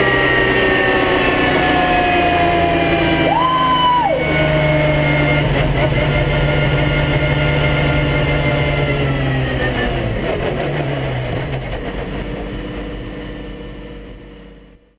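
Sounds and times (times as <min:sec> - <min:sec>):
sports car engine slowing: 0:00.0 - 0:14.9.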